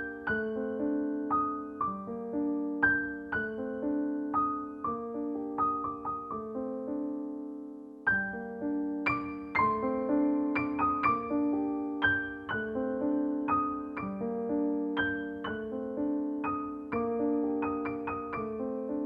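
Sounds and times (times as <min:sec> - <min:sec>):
slow solo piano music: 0:00.0 - 0:19.0.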